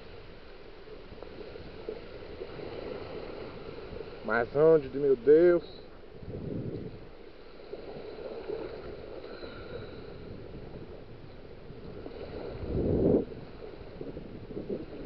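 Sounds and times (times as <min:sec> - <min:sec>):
rush of water: 0:00.0 - 0:15.0
surf lapping on sand: 0:00.0 - 0:15.0
wind on microphone: 0:01.0 - 0:15.0.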